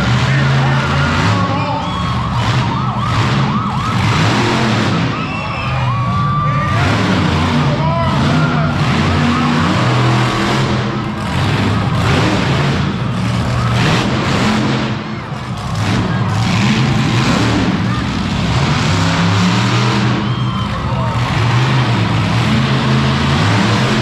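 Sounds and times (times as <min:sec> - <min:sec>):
crowd noise: 0:00.0 - 0:24.0
monster truck engine running: 0:00.0 - 0:24.0.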